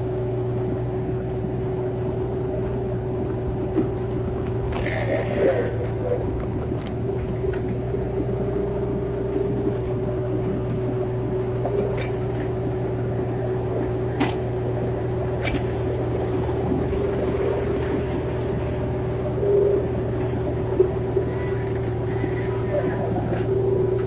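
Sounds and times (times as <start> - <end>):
excavator engine humming: 0.0 - 24.0.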